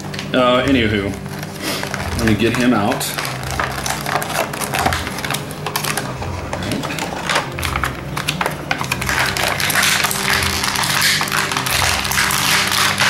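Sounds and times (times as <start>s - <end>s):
plastic blister tray crinkling: 0.0s - 13.0s.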